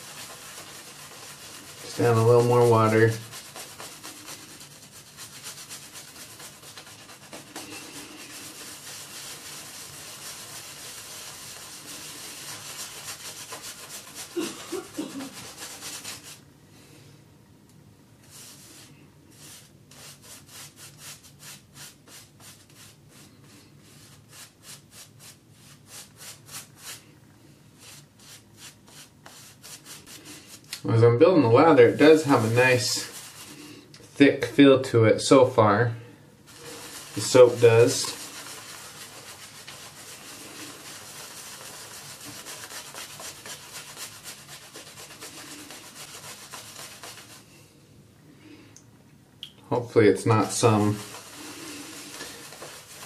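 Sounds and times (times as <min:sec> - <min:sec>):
shaving brush scrubbing lather: 0:00.0 - 0:16.4, 0:18.2 - 0:27.0, 0:27.8 - 0:30.8, 0:31.4 - 0:33.6, 0:36.5 - 0:47.5, 0:50.3 - 0:53.0.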